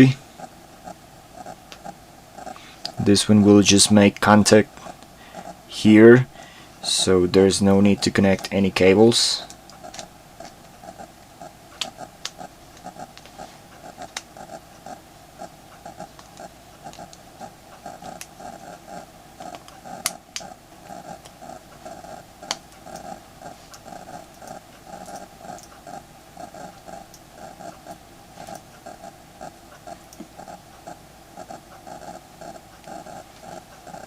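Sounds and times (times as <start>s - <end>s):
pulsing background sound: 0.0s - 34.0s.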